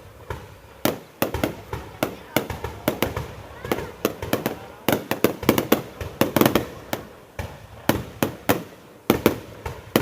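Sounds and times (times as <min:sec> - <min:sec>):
fireworks banging: 0:00.0 - 0:10.0.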